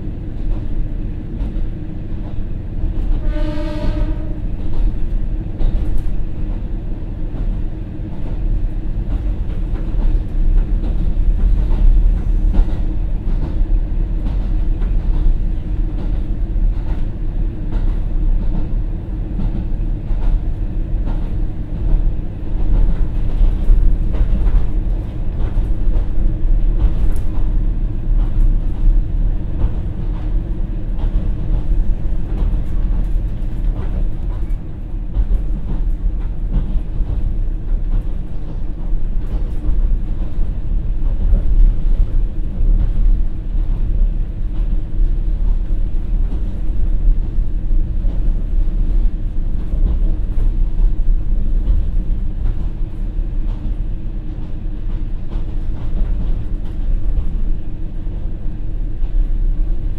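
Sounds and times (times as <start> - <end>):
train wheels clicking over rail joints: 0.4 - 59.9.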